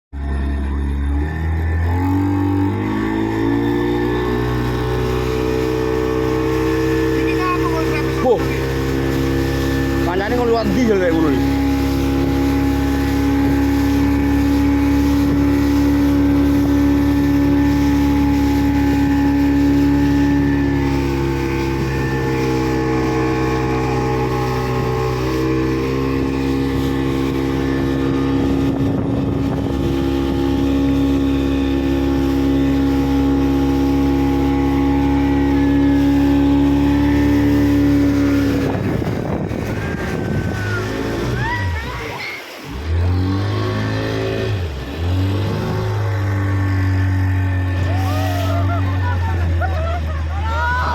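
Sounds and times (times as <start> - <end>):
motorboat engine humming: 0.1 - 50.9.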